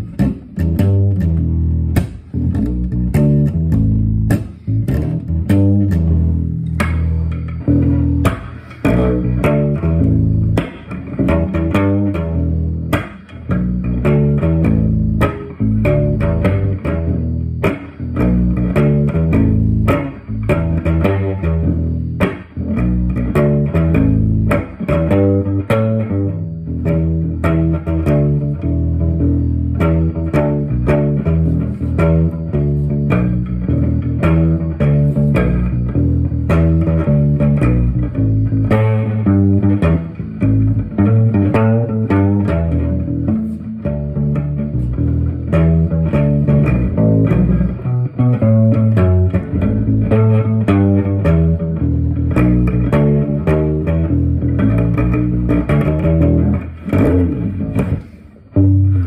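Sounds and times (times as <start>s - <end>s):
electric bass plucked notes: 0.0s - 59.0s.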